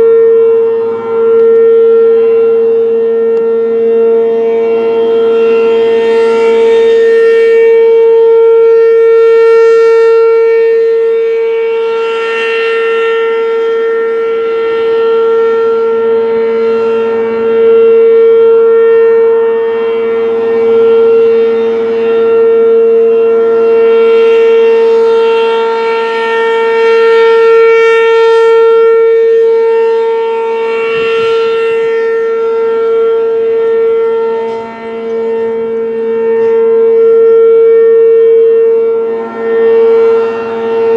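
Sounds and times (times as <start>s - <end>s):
rotating warning siren wailing: 0.0s - 40.9s.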